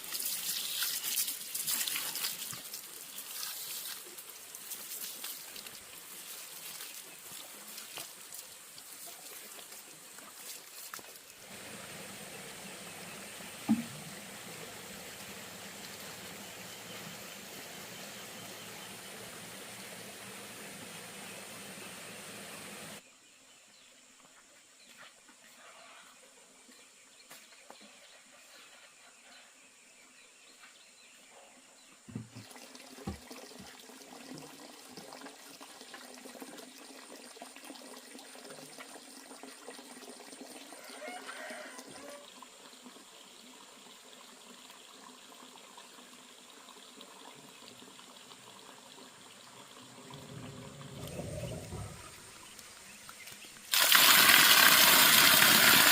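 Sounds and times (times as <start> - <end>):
water trickling and splashing: 0.0 - 23.0, 31.8 - 55.9.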